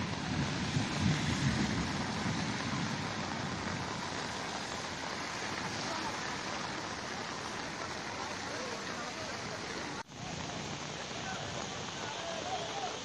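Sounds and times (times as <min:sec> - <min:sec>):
rain and floodwater rushing: 0:00.0 - 0:13.0.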